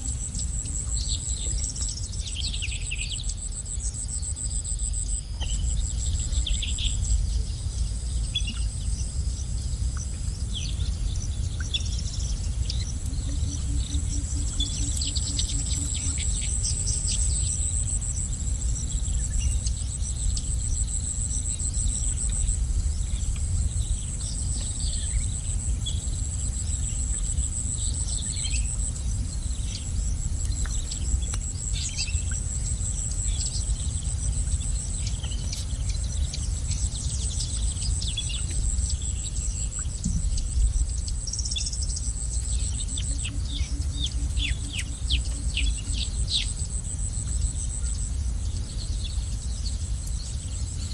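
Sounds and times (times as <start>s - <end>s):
high-pitched insect drone: 0.0s - 50.9s
low rumble: 0.0s - 50.9s
small birds chirping: 0.0s - 50.9s.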